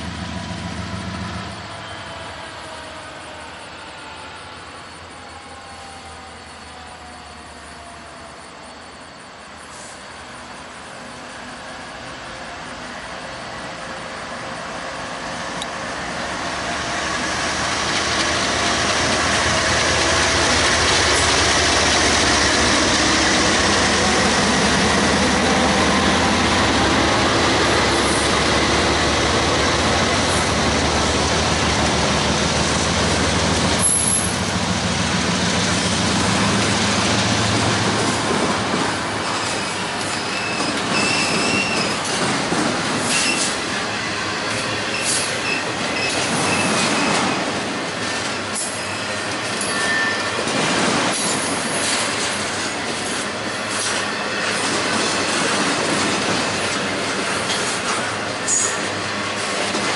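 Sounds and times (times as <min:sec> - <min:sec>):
diesel locomotives passing: 0:00.0 - 0:59.9
freight cars rolling on rails: 0:09.2 - 0:59.9.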